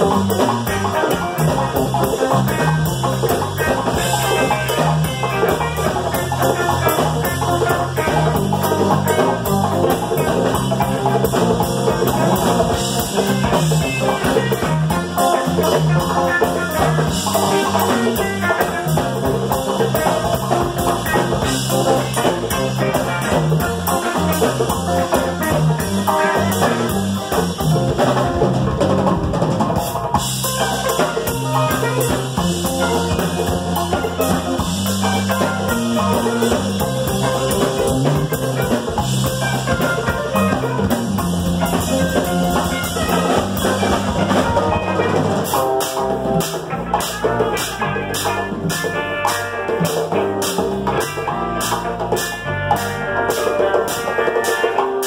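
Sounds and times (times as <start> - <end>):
drum rhythm: 0.0 - 55.0
live band music: 0.0 - 55.0.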